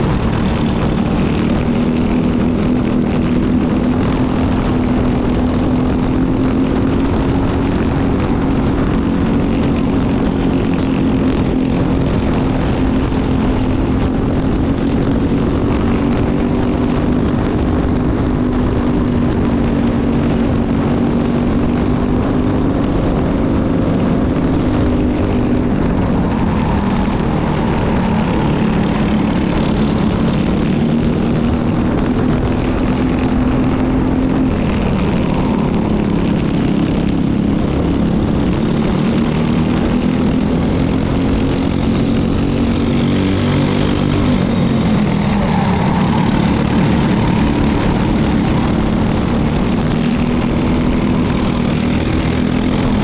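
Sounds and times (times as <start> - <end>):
kart engine revving: 0.0 - 53.0
wind rushing: 0.0 - 53.0.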